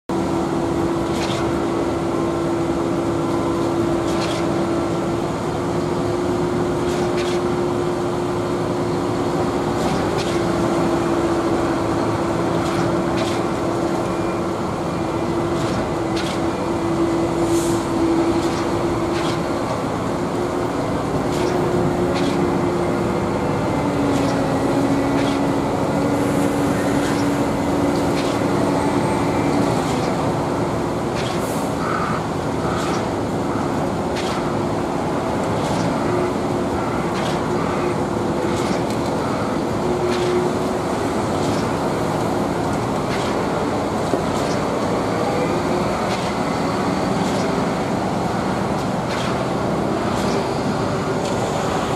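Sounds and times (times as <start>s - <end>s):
diesel engines droning: 0.1s - 51.9s.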